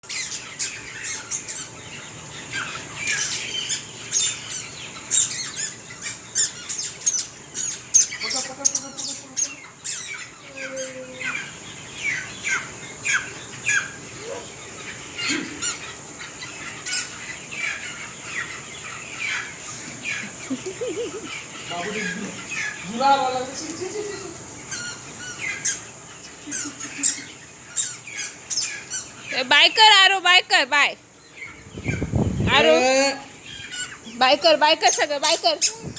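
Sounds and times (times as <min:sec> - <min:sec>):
chicks cheeping: 0:00.0 - 0:35.9.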